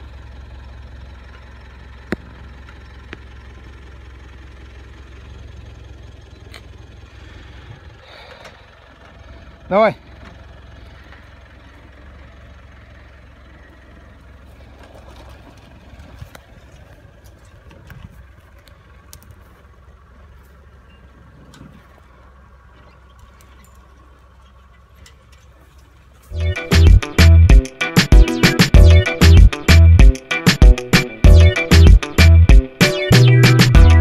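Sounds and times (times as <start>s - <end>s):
engine running at low revs: 0.0s - 34.0s.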